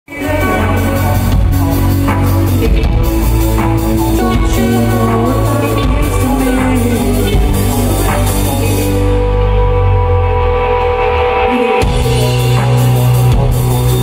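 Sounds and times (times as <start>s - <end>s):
live electronic music: 0.1s - 14.0s.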